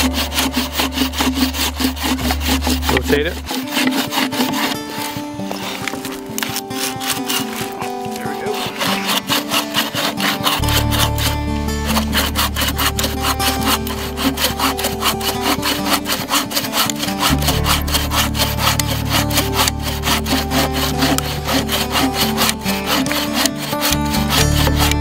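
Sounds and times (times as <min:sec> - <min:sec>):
background music with low bass: 0:00.0 - 0:25.0
bow saw rasping through log: 0:00.0 - 0:25.0.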